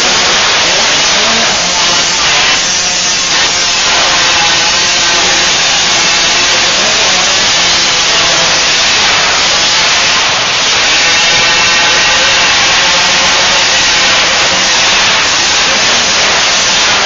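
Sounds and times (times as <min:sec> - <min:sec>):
motocross bikes racing: 0:00.0 - 0:17.0.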